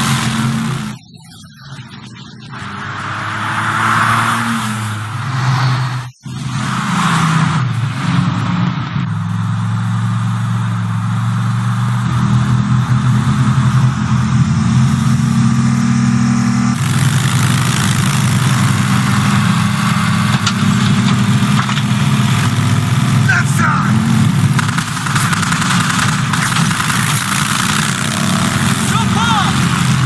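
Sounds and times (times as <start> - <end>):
vehicle engine drone: 0.0 - 30.0.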